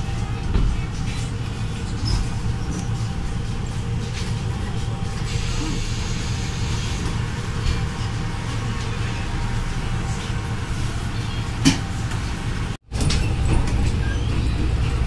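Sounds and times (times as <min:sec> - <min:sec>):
train carriage rumble: 0:00.0 - 0:15.0.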